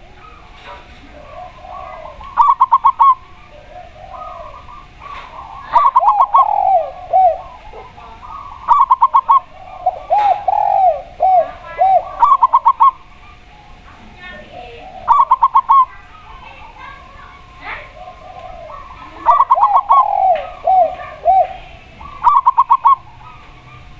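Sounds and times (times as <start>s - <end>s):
doves cooing: 0.0s - 23.9s.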